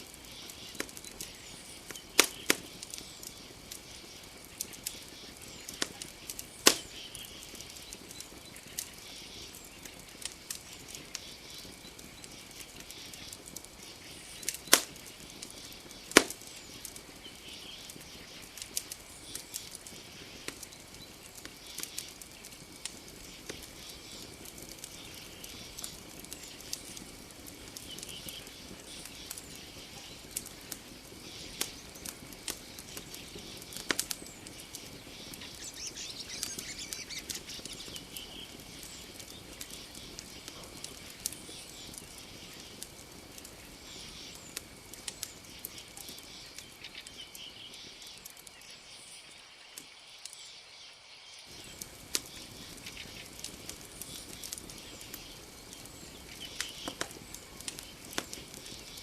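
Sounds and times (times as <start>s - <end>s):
low rush of flame: 0.0s - 48.6s, 51.5s - 59.0s
campfire crackling and popping: 0.0s - 50.5s, 51.4s - 59.0s
faint insect chirps: 0.0s - 59.0s
night insects droning: 0.0s - 59.0s.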